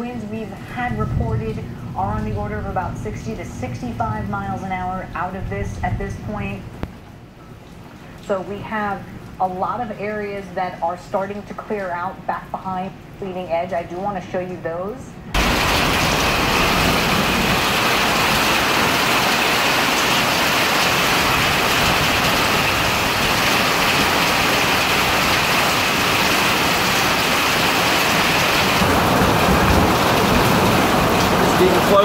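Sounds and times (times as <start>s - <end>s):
heavy rain on a metal roof: 0.0s - 12.2s, 15.3s - 32.0s.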